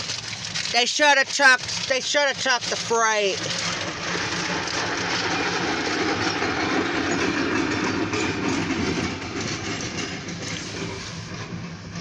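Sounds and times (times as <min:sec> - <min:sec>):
locomotive engine: 0:00.0 - 0:12.0
train wheels on rail: 0:00.8 - 0:12.0.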